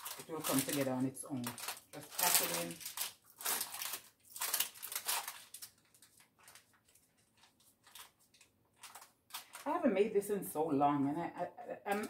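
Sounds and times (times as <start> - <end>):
parchment paper rustling: 0.0 - 9.8.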